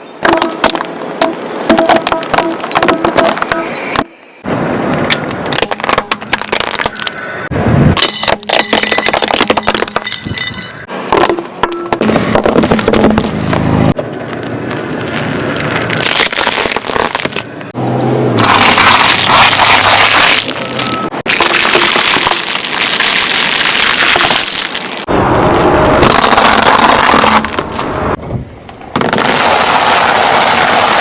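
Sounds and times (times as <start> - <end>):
objects crunching under car wheels: 0.0 - 31.0.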